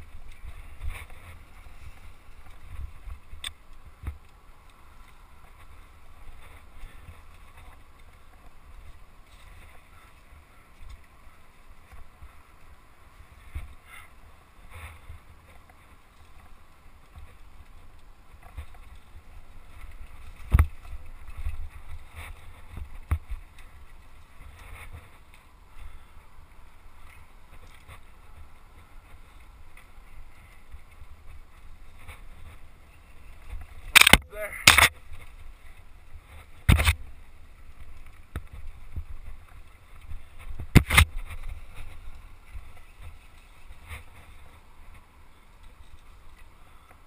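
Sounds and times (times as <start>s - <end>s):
wind rumble on microphone: 0.0s - 46.9s.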